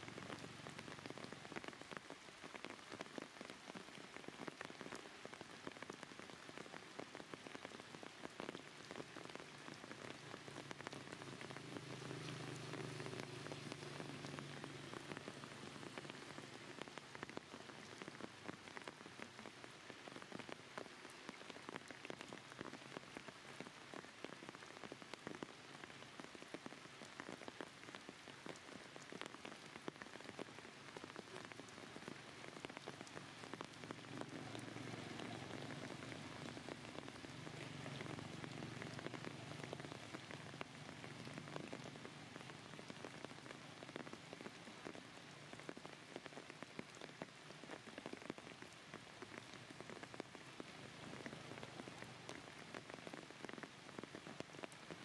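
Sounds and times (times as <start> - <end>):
rain drops falling: 0.0 - 55.0.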